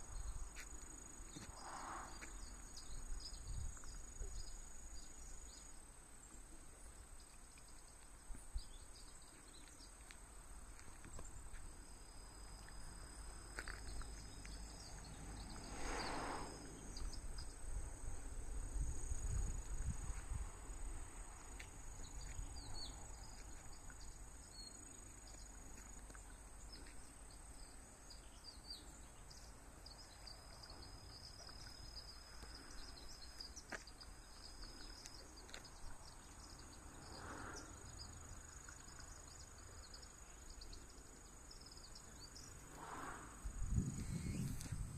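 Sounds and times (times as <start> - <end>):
crickets and insects trilling: 0.0 - 7.2, 7.8 - 44.9.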